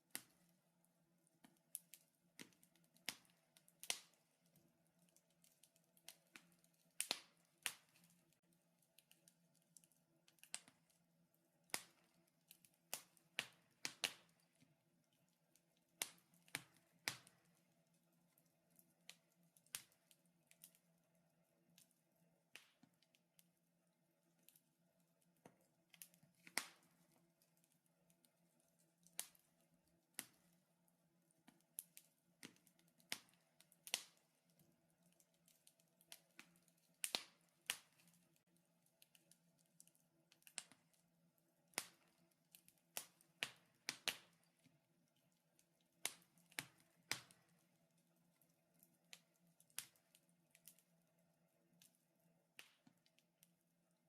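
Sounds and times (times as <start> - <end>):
wood fire crackling: 0.0 - 23.6, 24.2 - 53.6.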